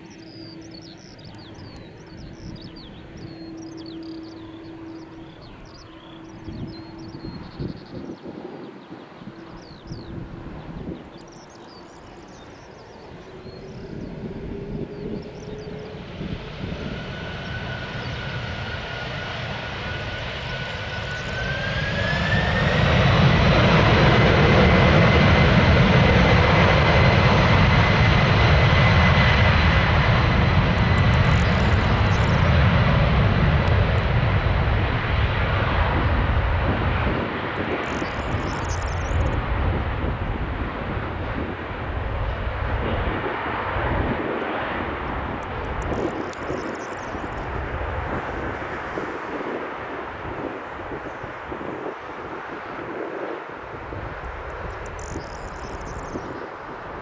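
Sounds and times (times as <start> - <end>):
jet engines spooling up: 0.0 - 57.0.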